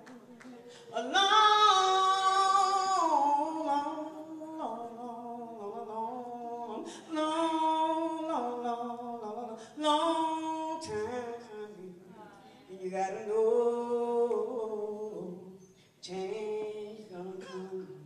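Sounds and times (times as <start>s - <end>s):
woman singing gospel song: 0.0s - 18.0s.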